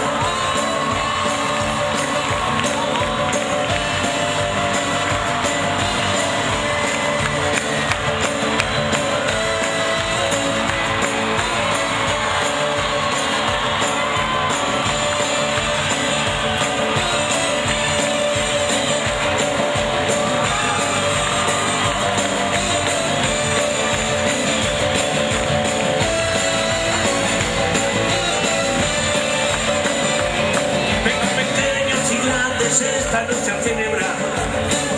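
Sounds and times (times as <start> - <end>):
live band playing: 0.0 - 34.9.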